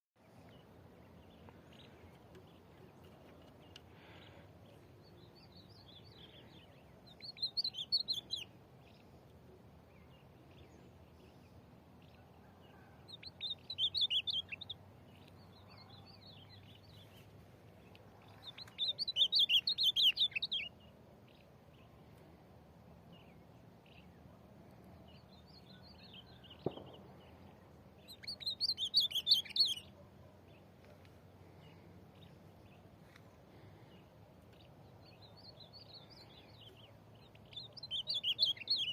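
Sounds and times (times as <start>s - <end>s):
bird warbling song: 0.4s - 9.1s, 9.9s - 17.2s, 17.8s - 22.0s, 25.0s - 31.0s, 33.9s - 38.9s.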